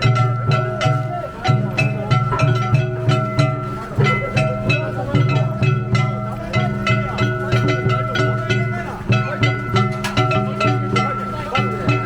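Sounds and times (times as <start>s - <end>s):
plucked shamisen: 0.0s - 12.0s
steady drum beat: 0.0s - 12.0s
sustained melody line: 0.0s - 12.0s.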